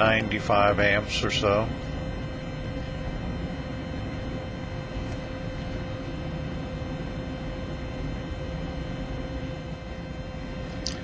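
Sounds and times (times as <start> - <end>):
faint electric motor whine: 0.0 - 11.0.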